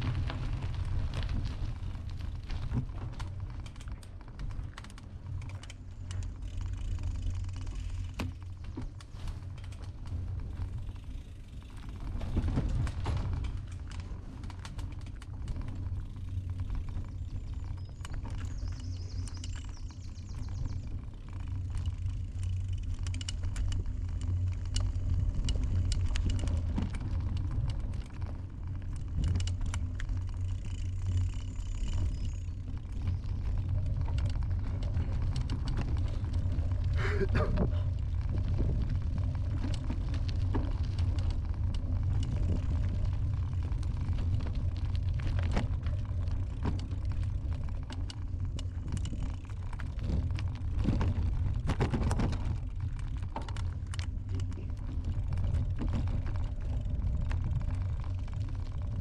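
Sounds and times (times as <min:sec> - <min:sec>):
bicycle rattles and clicks: 0:00.0 - 0:59.0
bicycle rumble on rough path: 0:00.0 - 0:59.0.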